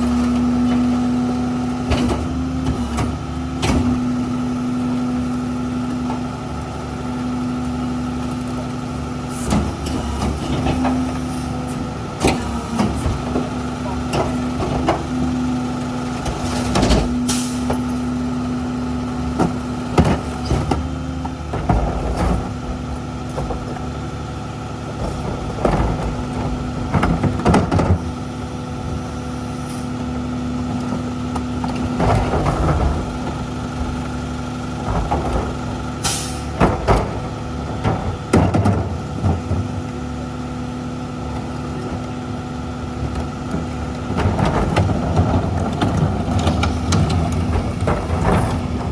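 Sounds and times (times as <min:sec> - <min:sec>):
garbage truck engine drone: 0:00.0 - 0:48.9.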